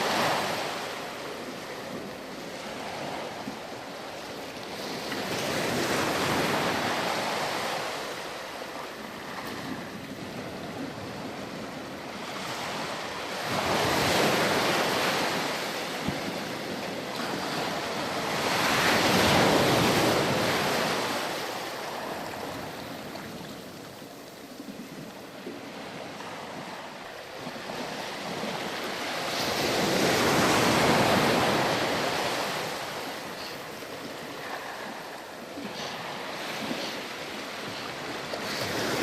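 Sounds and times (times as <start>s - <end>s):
ocean waves breaking on shore: 0.0s - 39.0s.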